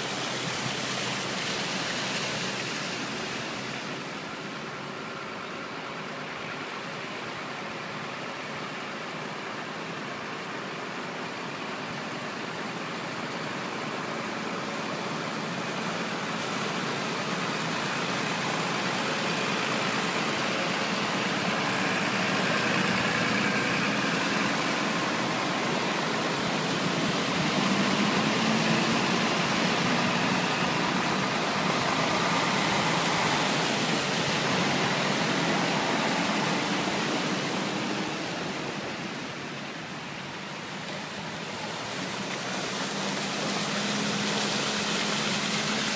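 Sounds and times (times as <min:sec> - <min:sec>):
vehicles driving through floodwater: 0:00.0 - 0:45.9
water rushing across road: 0:00.0 - 0:45.9.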